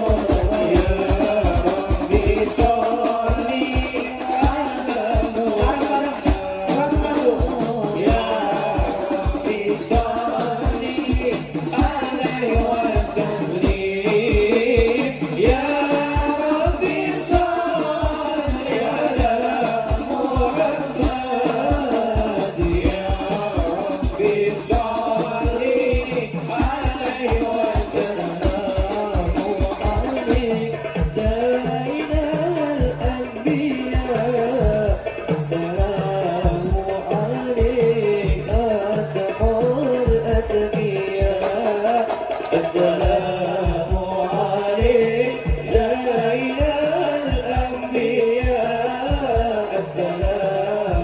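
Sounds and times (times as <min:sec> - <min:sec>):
frame drums beating: 0:00.0 - 0:51.0
jingling percussion: 0:00.0 - 0:51.0
men singing into microphones: 0:00.0 - 0:51.0.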